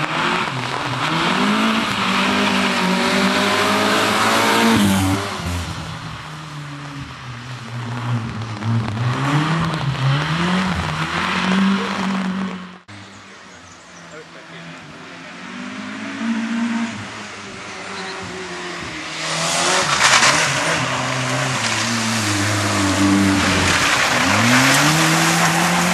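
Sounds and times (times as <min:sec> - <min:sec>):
rally car engine revving: 0:00.0 - 0:13.1, 0:14.1 - 0:25.9.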